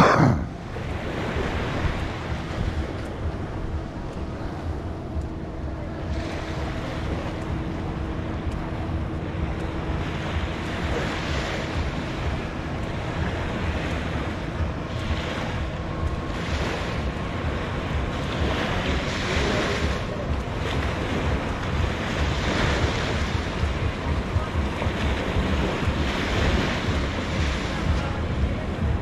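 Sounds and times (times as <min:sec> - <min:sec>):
waves washing onto sand: 0:00.0 - 0:29.0
wind rumble on microphone: 0:00.0 - 0:29.0.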